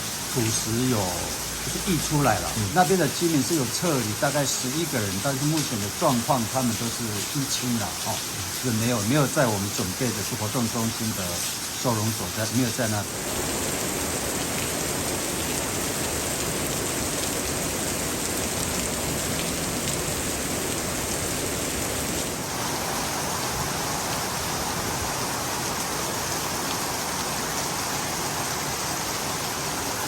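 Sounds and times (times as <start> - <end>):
heavy rain pouring: 0.0 - 30.0
runoff water rushing: 0.0 - 30.0.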